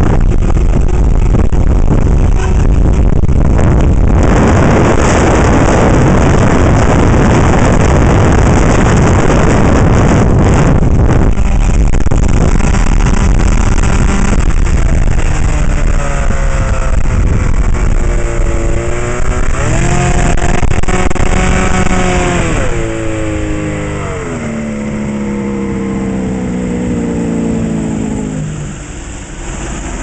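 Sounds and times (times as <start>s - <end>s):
heavy wind: 0.0s - 30.0s
outboard motor running: 0.0s - 30.0s
water noise: 0.0s - 30.0s.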